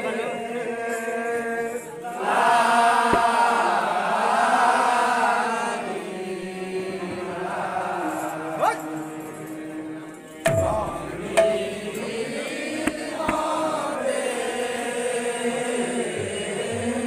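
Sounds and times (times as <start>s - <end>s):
men chanting in chorus: 0.0s - 17.0s.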